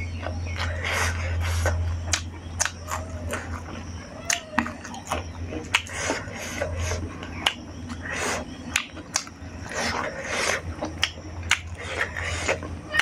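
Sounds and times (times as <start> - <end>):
sharp wet clicks: 1.6 - 13.0.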